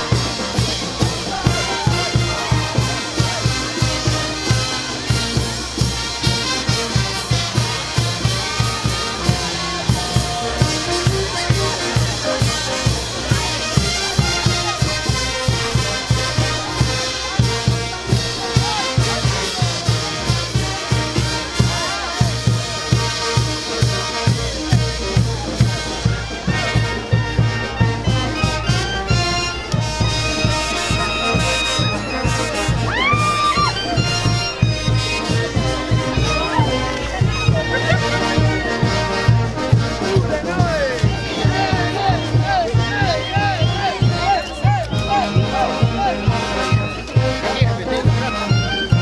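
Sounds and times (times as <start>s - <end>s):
brass band playing: 0.0s - 49.0s
drums keeping steady beat: 0.0s - 49.0s.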